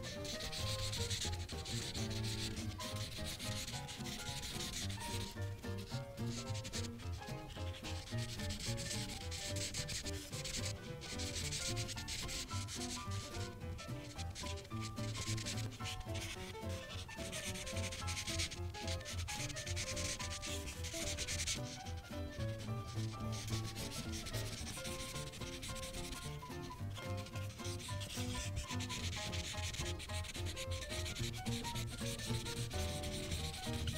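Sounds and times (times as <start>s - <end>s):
marker scratching on paper: 0.0s - 33.9s.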